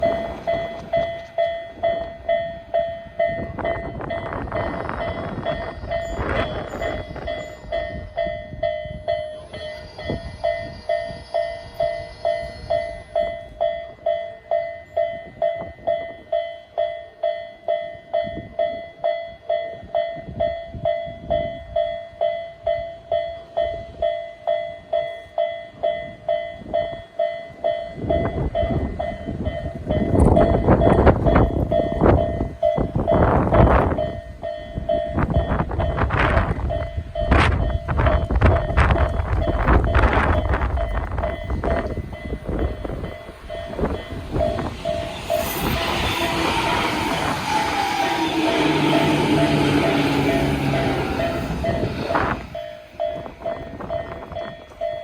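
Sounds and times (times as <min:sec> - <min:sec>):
level-crossing alarm dinging: 0:00.0 - 0:55.0
train rumble: 0:00.0 - 0:55.0.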